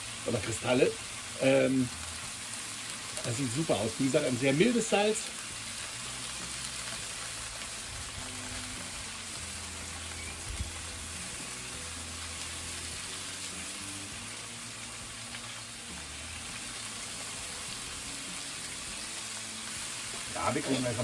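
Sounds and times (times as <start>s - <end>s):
meat and vegetables sizzling: 0.0s - 21.0s.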